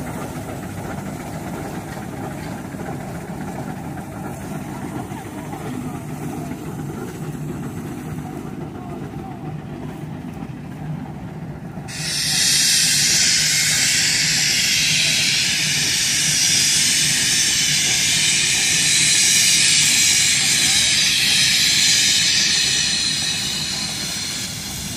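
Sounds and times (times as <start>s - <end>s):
loud hiss of steam: 0.0s - 8.7s, 11.8s - 24.9s
steam traction engine working: 0.0s - 24.9s.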